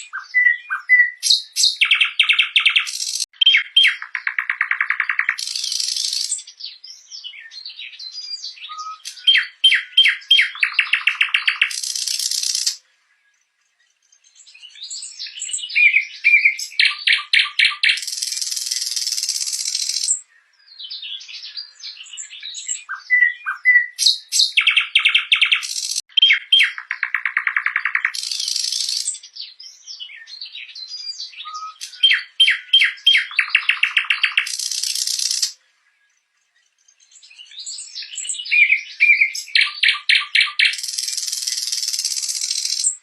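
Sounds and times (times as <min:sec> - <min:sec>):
nightingale singing: 0:00.0 - 0:43.0.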